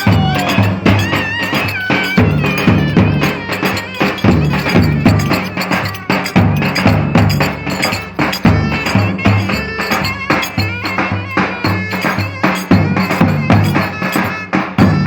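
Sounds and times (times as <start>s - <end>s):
driving drum beat: 0.0s - 15.0s
wavering melody: 0.0s - 15.0s.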